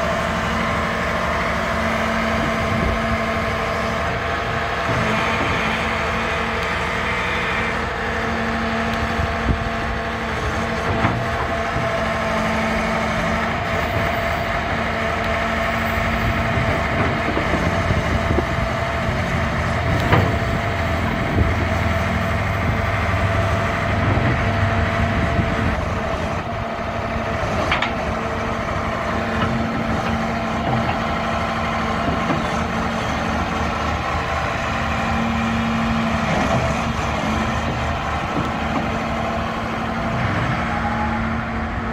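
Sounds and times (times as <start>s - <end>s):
excavator diesel engine running: 0.0s - 41.9s
hydraulic boom working: 0.0s - 41.9s.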